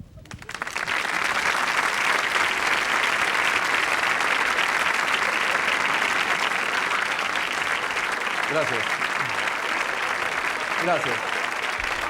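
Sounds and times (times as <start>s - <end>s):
audience applauding: 0.3s - 12.0s.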